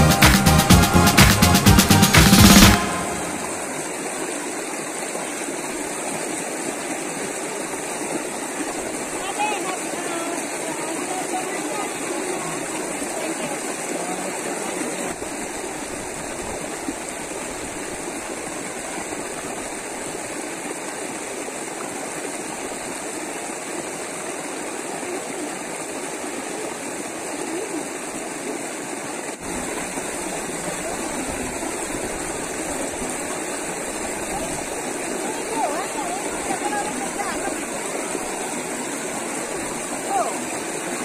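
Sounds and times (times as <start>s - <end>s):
stream water running over stones: 2.2s - 41.0s.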